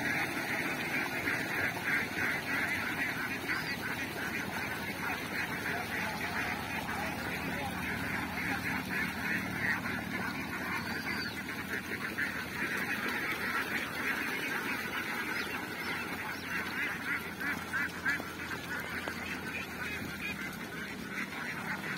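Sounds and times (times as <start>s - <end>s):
flock of ducks quacking: 0.0s - 21.9s.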